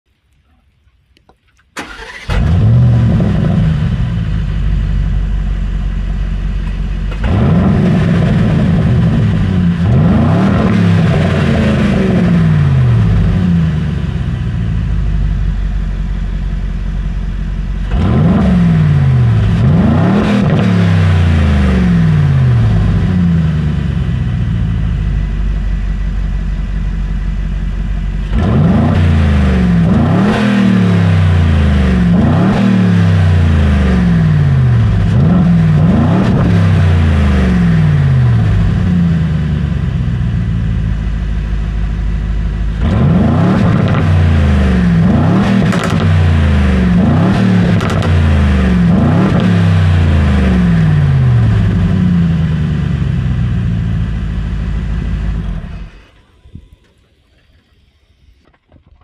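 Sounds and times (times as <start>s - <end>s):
car engine idling: 0.1s - 20.1s, 20.9s - 30.3s, 30.9s - 59.0s
car engine starting with flare: 1.2s - 59.0s
car engine revving: 1.8s - 58.8s.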